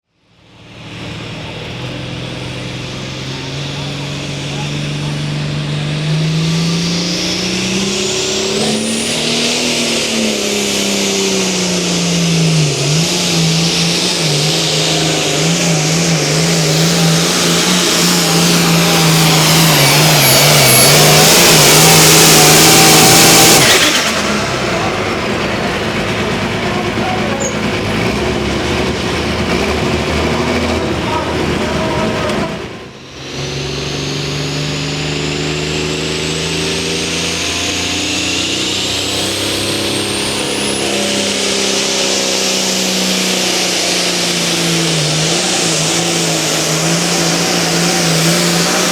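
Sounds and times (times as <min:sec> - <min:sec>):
tractor engine running hard: 0:00.0 - 0:48.9
engine running steadily: 0:00.1 - 0:48.9
loud engine hiss: 0:00.4 - 0:48.9.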